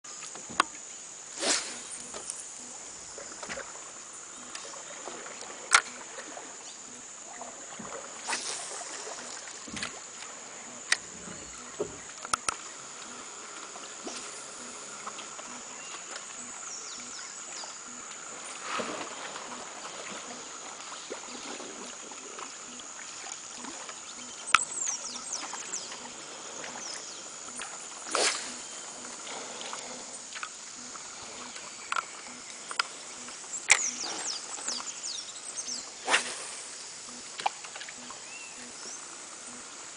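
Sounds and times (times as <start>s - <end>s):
water sloshing: 0.4s - 39.7s.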